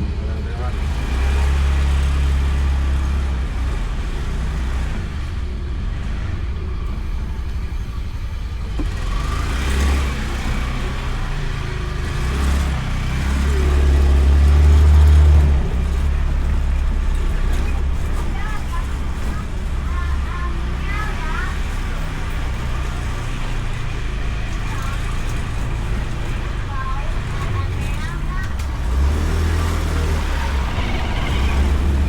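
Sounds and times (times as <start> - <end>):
wind and motorbike engine rumble: 0.0 - 32.0.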